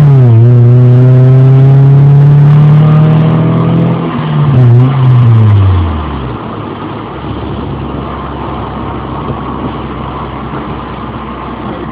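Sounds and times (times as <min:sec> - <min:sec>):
car engine revving and idling: 0:00.0 - 0:11.9.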